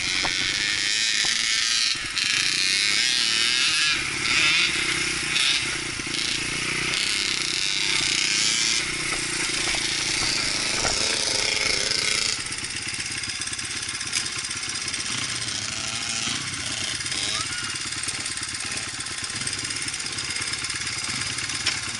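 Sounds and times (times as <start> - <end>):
dirt bike engine running: 0.0 - 21.9.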